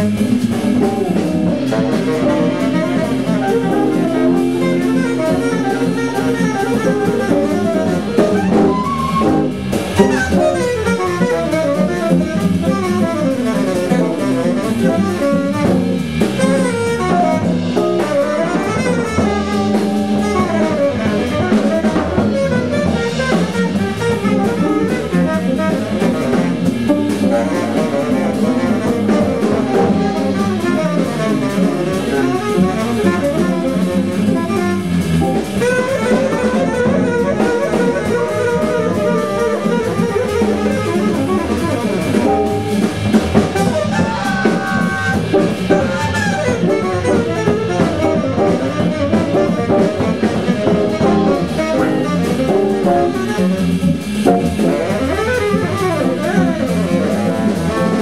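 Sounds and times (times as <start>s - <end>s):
drum kit: 0.0s - 58.0s
organ accompaniment: 0.0s - 58.0s
tenor saxophone solo: 0.0s - 58.0s.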